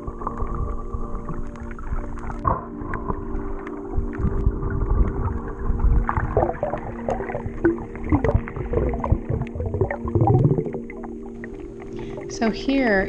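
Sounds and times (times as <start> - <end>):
steady low hum: 0.0 - 13.0
water rushing and bubbling underwater: 0.0 - 13.0.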